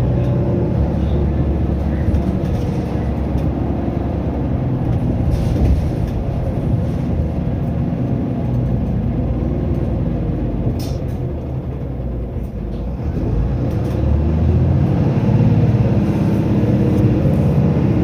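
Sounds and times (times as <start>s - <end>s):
bus diesel engine running: 0.0s - 18.0s
road noise: 0.0s - 18.0s.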